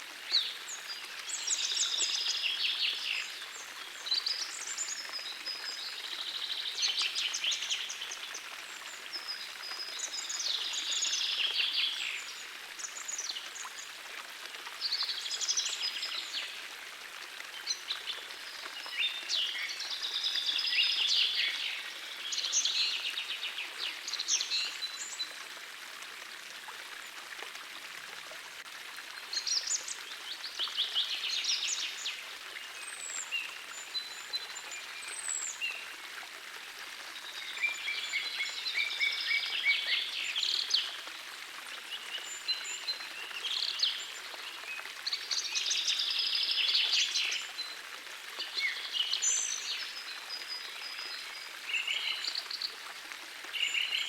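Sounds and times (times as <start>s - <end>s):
small stream flowing: 0.0s - 54.0s.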